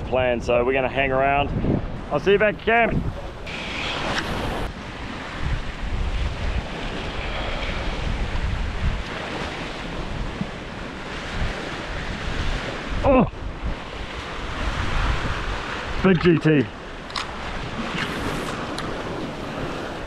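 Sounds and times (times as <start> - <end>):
wind buffeting microphone: 0.0 - 20.0
sea surf against rocks: 1.1 - 20.0.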